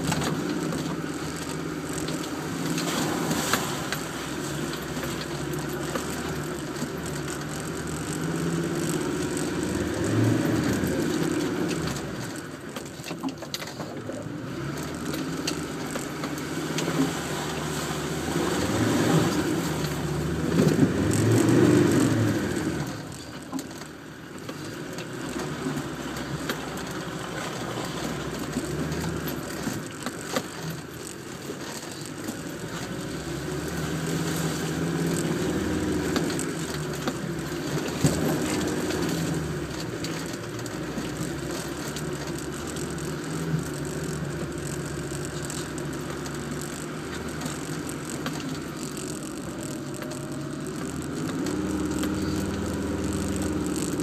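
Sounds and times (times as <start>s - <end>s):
vehicle engine under load: 0.0s - 54.0s.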